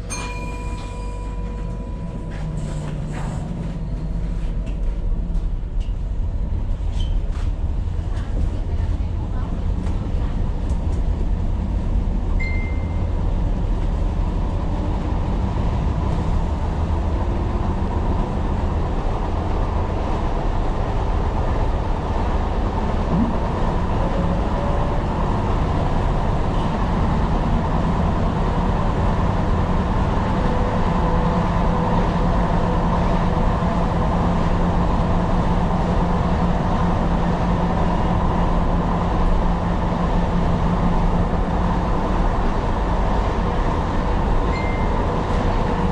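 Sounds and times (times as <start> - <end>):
steady train hum: 0.0 - 45.9
train wheels rumbling on rail: 0.0 - 45.9.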